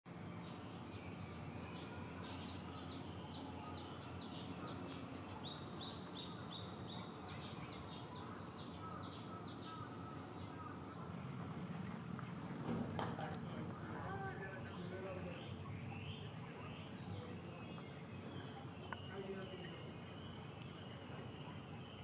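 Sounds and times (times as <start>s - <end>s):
outdoor background noise: 0.1s - 22.0s.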